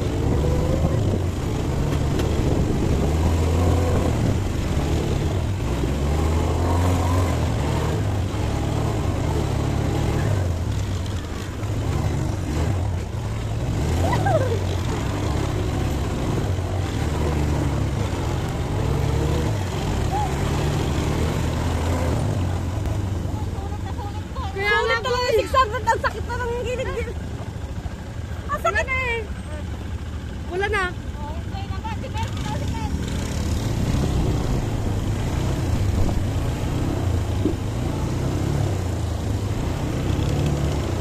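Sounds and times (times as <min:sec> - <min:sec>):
quad bike engines droning: 0:00.0 - 0:41.0.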